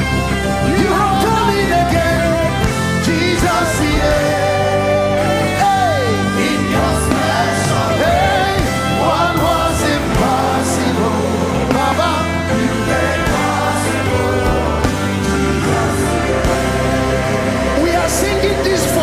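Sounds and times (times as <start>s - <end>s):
worship band playing: 0.0s - 19.0s.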